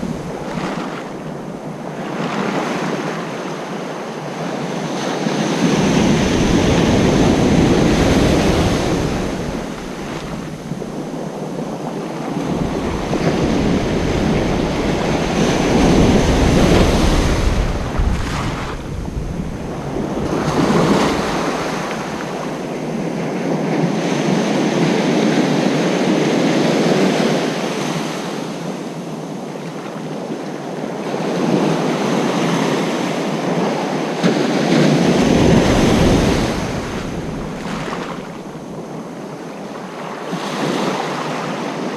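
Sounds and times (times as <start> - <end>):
wind buffeting microphone: 4.2 - 39.4
ocean surf breaking: 5.1 - 29.0, 31.1 - 41.9.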